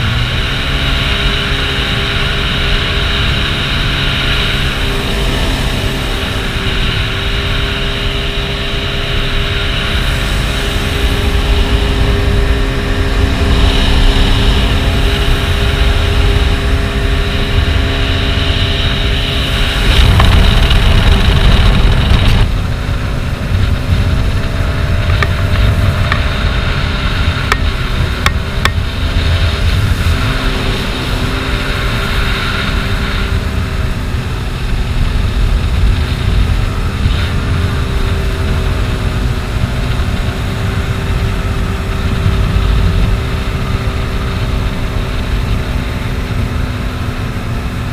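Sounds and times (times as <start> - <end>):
jet ski engine: 0.0 - 47.9
wind buffeting microphone: 0.0 - 47.9.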